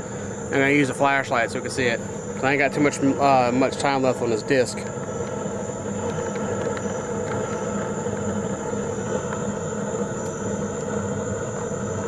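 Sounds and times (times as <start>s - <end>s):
mechanical hum and hiss: 0.0s - 12.0s
thin high whine: 0.0s - 12.0s.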